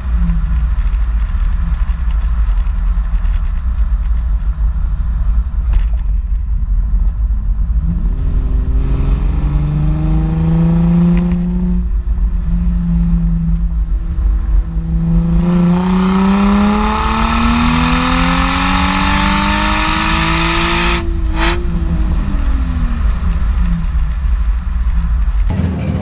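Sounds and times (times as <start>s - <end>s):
wind rumble on microphone: 0.0s - 26.0s
car engine revving through exhaust: 4.6s - 25.5s.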